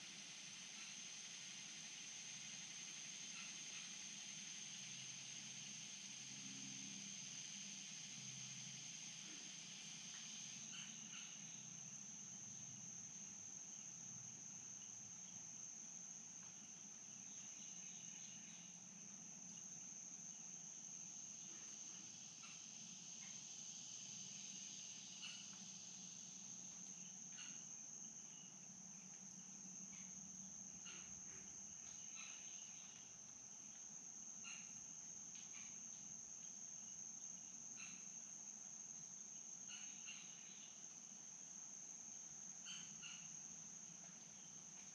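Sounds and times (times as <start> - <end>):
high-pitched insect trill: 0.0 - 44.9.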